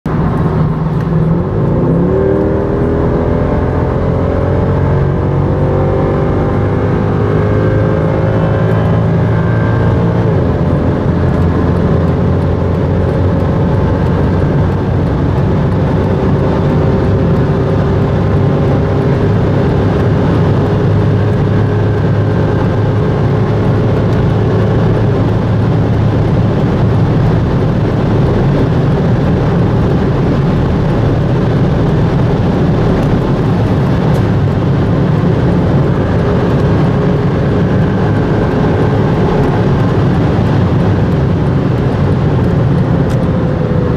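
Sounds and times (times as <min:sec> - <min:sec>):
road and wind noise: 0:00.0 - 0:43.9
car engine accelerating: 0:00.1 - 0:43.9.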